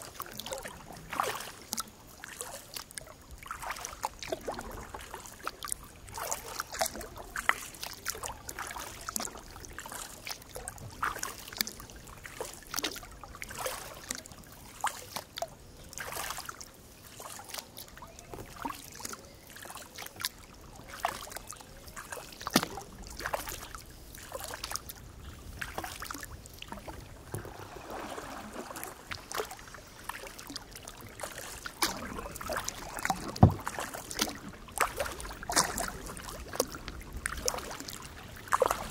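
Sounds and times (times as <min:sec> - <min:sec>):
paddle splashing in water: 0:00.0 - 0:38.9.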